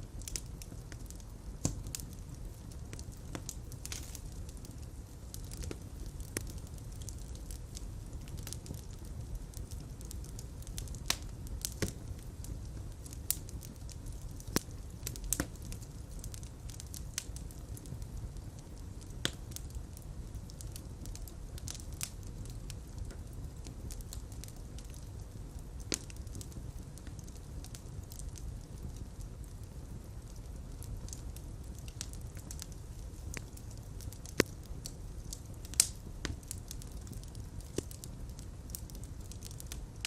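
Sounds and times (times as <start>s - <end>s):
fire crackling and popping: 0.0s - 40.0s
low rumble of fire: 0.0s - 40.0s.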